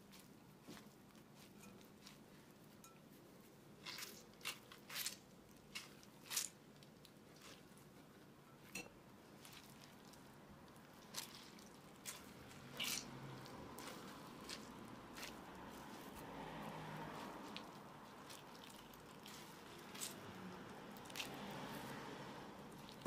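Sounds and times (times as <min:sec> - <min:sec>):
grated potato squished by hand: 0:00.0 - 0:08.4, 0:09.2 - 0:23.0.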